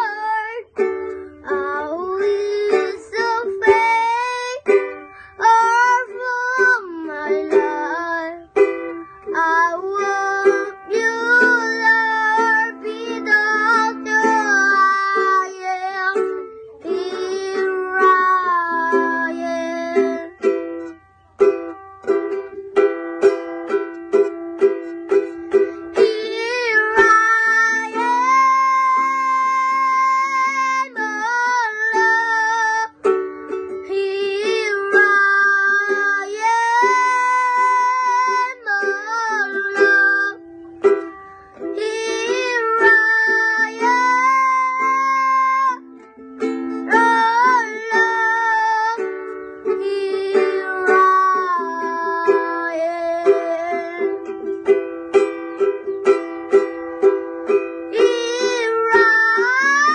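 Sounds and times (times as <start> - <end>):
boy singing: 0.0 - 21.0, 23.2 - 59.9
ukulele strumming: 0.0 - 59.9.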